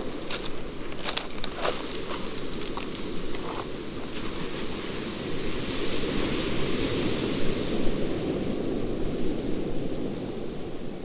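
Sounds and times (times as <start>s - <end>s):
surf on pebble beach: 0.0s - 11.0s.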